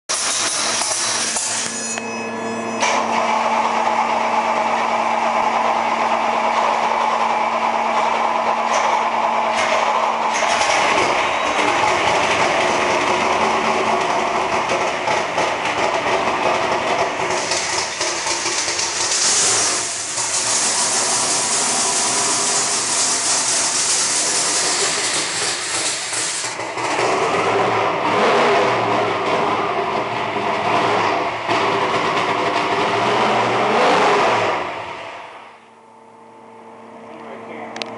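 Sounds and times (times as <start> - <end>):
engine revving: 2.8 - 35.5.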